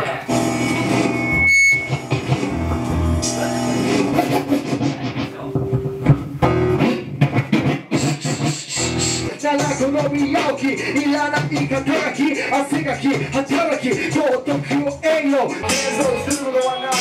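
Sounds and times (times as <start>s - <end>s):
loud guitar music: 0.0s - 17.0s.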